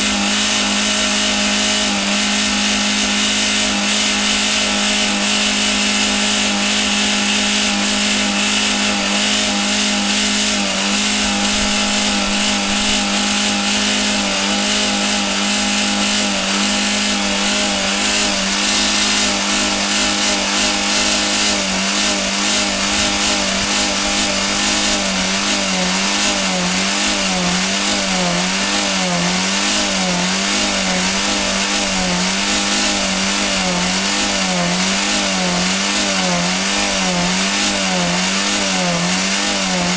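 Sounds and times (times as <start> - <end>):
car engine droning at high revs: 0.0 - 39.9.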